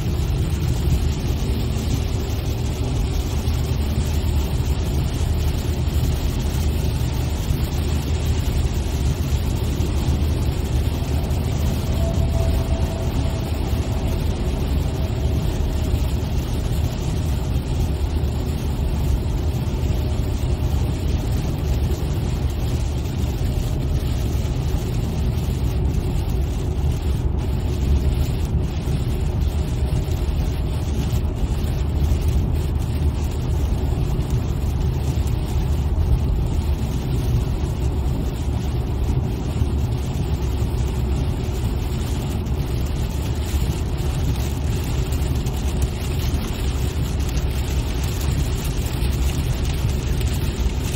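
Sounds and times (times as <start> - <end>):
car road and engine noise: 0.0 - 50.9.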